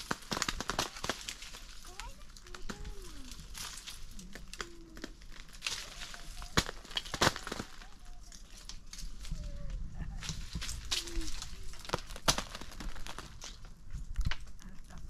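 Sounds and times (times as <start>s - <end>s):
dry material crackling and snapping: 0.0s - 15.0s.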